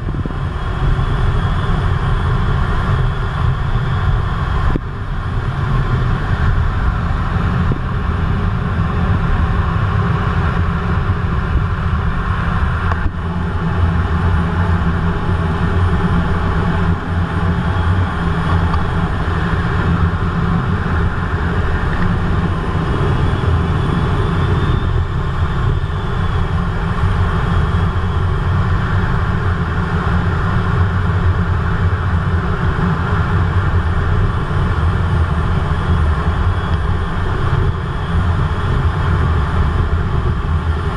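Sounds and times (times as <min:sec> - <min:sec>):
faint high whine: 0:00.0 - 0:40.9
jet engines and rushing air: 0:00.0 - 0:40.9.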